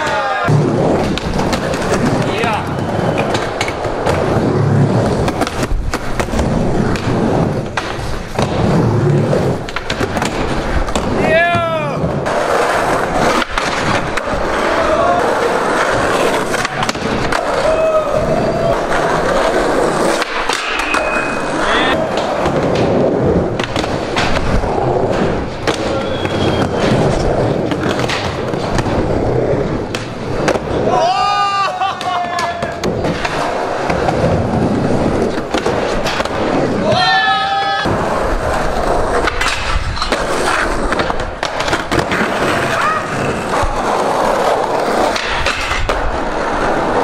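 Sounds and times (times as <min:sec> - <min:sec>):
skateboard clacks: 0:00.0 - 0:47.0
skateboard wheels rumbling on wood: 0:00.0 - 0:47.0.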